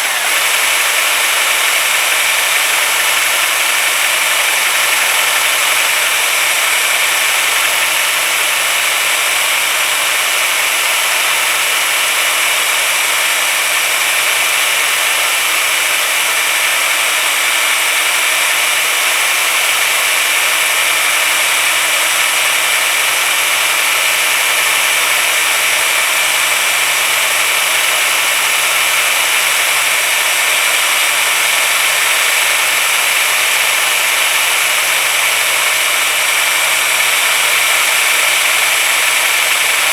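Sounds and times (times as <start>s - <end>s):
drill polishing metal whine: 0.0s - 39.9s.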